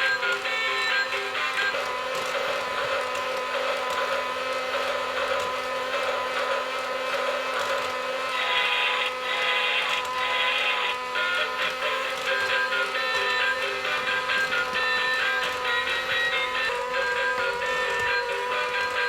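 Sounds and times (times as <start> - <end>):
steady toy tones: 0.0 - 19.0
toy electric motor whirring: 0.0 - 19.0.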